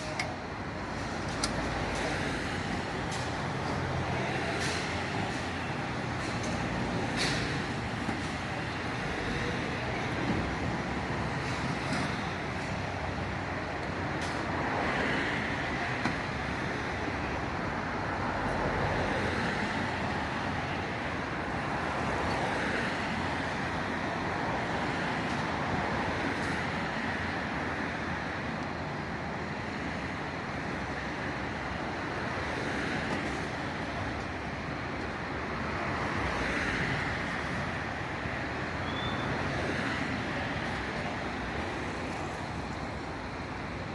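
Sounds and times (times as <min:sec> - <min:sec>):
vehicle rumble and hiss: 0:00.0 - 0:43.9.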